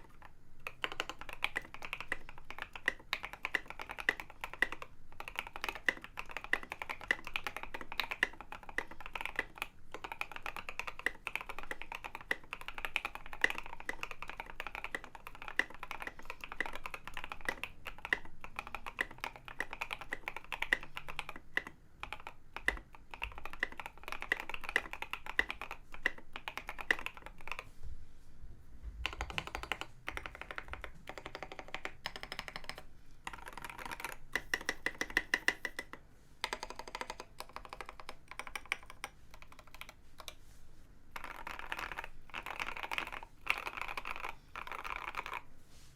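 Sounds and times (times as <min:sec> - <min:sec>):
fast typing on mechanical keyboard: 0:00.0 - 0:27.7, 0:29.0 - 0:40.4, 0:41.2 - 0:45.5.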